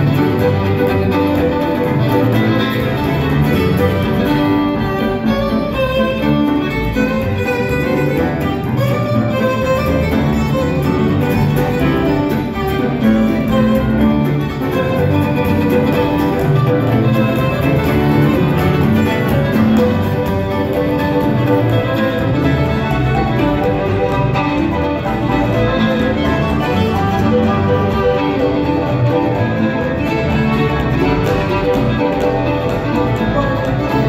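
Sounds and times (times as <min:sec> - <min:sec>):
acoustic string band: 0:00.0 - 0:34.0
fiddle playing lead: 0:00.0 - 0:34.0.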